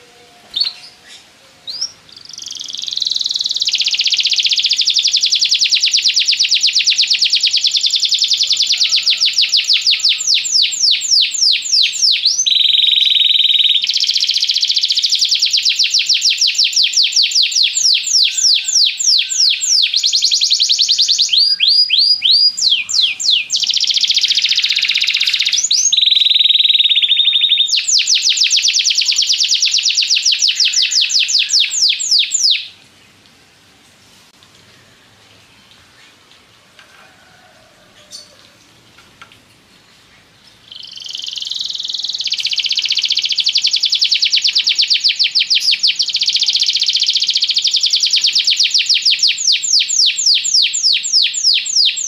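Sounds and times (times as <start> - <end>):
canary singing trills: 0.0 - 32.8, 40.6 - 52.0.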